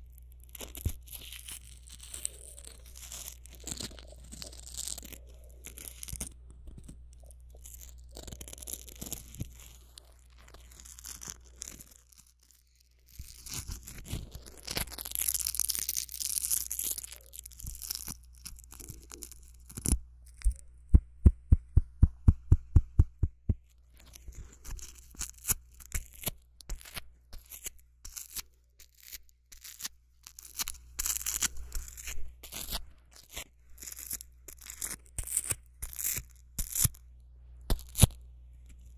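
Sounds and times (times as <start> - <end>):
scratching and tearing handling: 0.0 - 20.7, 23.7 - 37.1, 37.7 - 38.9.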